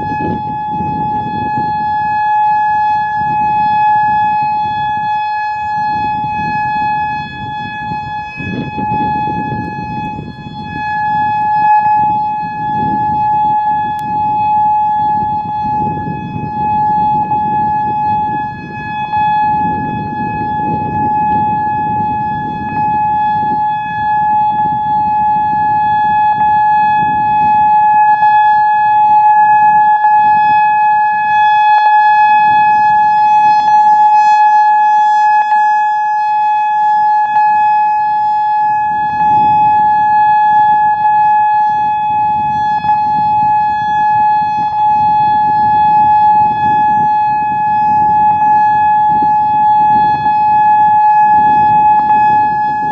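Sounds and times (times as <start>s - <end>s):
electronic siren steady tone: 0.0s - 52.9s.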